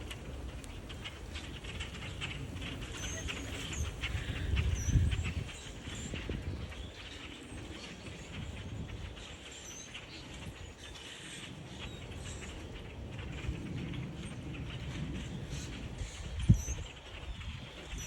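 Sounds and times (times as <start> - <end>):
rustling and pattering: 0.0 - 18.0
small birds chirping: 0.0 - 18.0.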